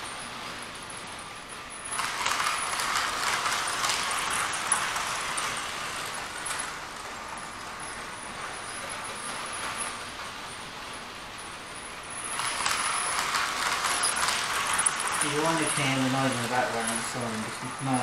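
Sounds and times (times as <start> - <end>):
model train wheels rattling: 0.1 - 18.0.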